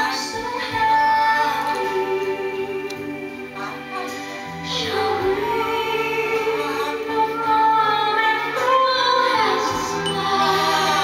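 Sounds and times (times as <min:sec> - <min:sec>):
instrumental backing music: 0:00.0 - 0:11.0
woman singing operatically: 0:00.0 - 0:11.0.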